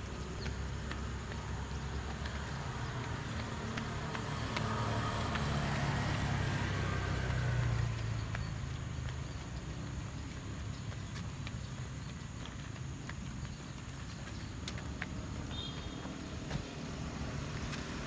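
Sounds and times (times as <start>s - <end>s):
light footstep clicks: 0.0s - 18.0s
stroller wheels rolling on asphalt: 0.0s - 18.0s.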